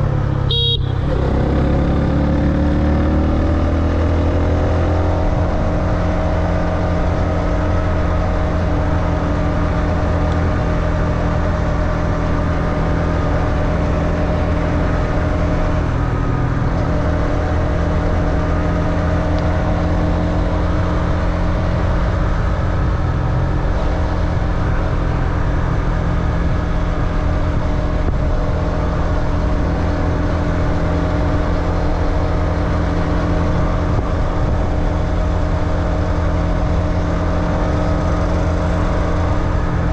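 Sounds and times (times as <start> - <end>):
motorbike engine droning: 0.0 - 39.9.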